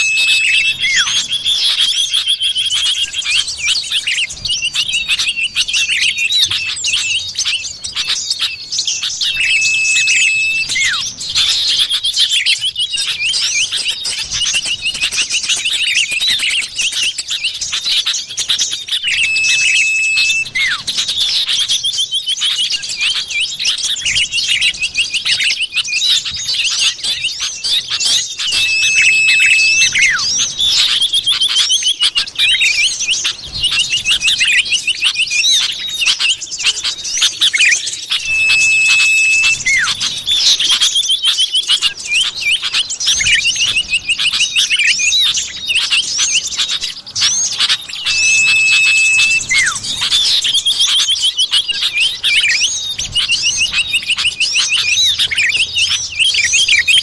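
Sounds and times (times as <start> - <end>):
chattering bird chirps and trills: 0.0 - 57.0
whistled bird note: 0.0 - 57.0.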